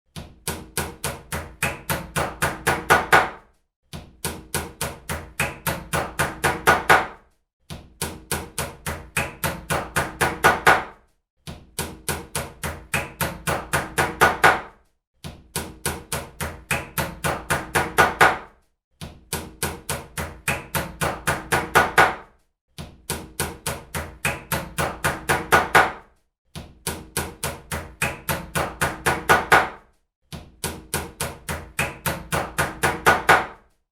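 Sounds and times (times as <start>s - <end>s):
hammer striking nails into wood: 0.4s - 3.4s, 4.1s - 7.2s, 8.0s - 11.0s, 11.7s - 14.8s, 15.4s - 18.5s, 19.3s - 22.3s, 23.0s - 26.0s, 26.8s - 29.9s, 30.6s - 33.6s.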